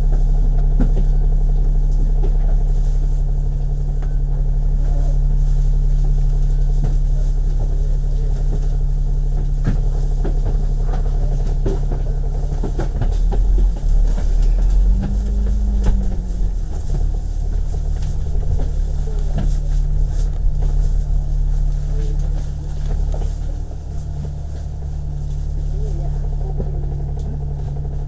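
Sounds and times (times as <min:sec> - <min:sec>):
bus diesel engine drone: 0:00.0 - 0:28.0.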